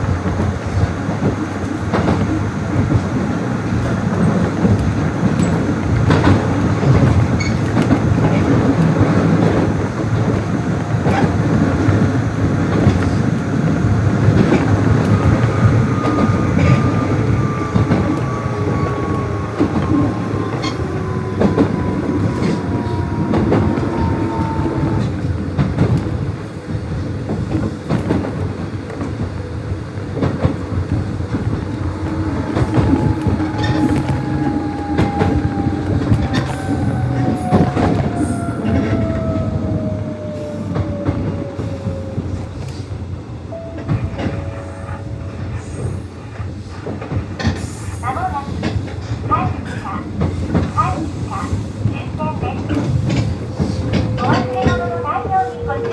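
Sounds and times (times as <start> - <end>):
wheels clacking over rail joints: 0.0 - 26.5, 27.2 - 55.9
electric train rumbling: 0.0 - 55.9.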